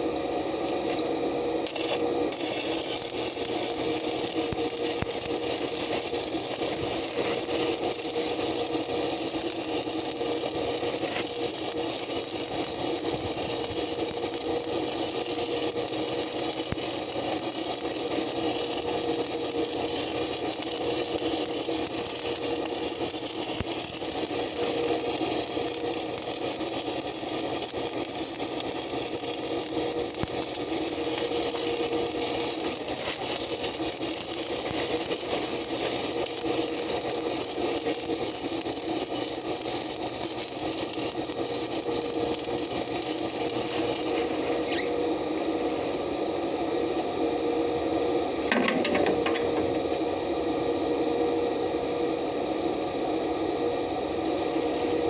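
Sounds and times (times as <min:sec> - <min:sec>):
welding arc crackling: 0:00.0 - 0:46.3
constant hum: 0:00.0 - 0:55.0.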